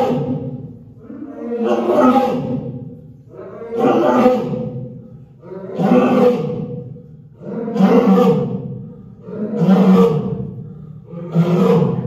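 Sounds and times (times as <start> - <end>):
lioness roaring: 0.0 - 2.7, 3.3 - 6.8, 7.4 - 12.0.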